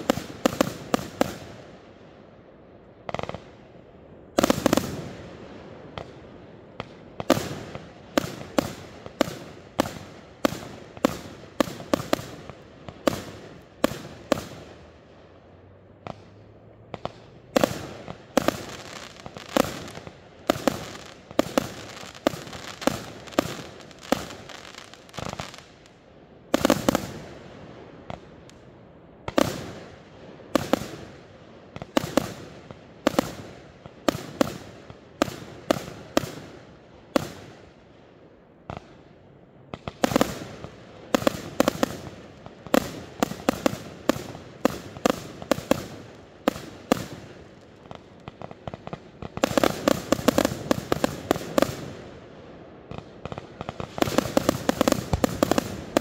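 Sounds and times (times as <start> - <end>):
fireworks bursting with sharp bangs: 0.0 - 56.0.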